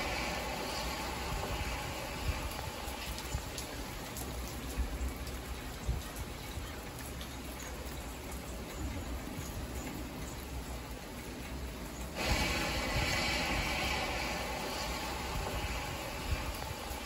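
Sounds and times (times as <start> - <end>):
rain hitting car windshield: 0.0 - 17.0
tyres rumbling on wet road: 0.0 - 17.0.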